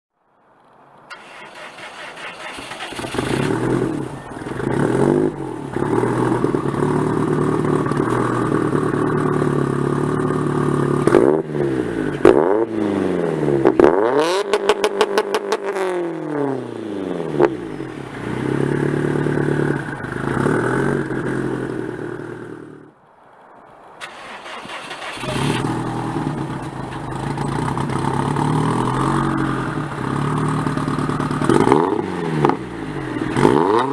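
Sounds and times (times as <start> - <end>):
exhaust crackles: 1.1 - 23.0, 24.0 - 33.9
car engine idling and revving: 1.2 - 23.0, 24.4 - 33.9.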